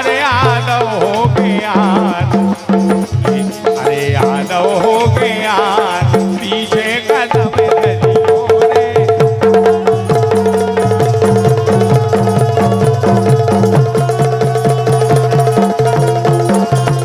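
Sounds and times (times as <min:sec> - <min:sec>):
drum beats: 0:00.0 - 0:17.0
rattling percussion: 0:00.0 - 0:17.0.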